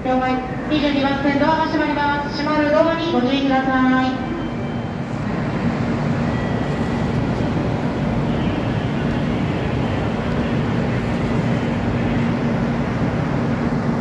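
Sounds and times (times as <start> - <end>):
stationary train hum and hiss: 0.0 - 14.0.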